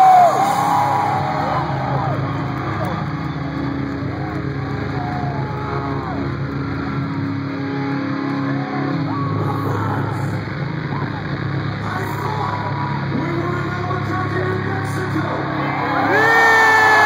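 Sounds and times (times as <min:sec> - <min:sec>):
crowd whooping: 0:00.0 - 0:17.0
low concert drone: 0:00.0 - 0:17.0.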